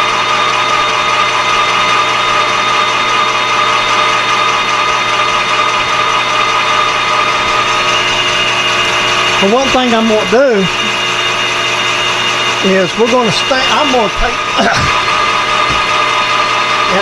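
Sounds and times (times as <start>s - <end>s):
metal lathe cutting metal: 0.0s - 17.0s.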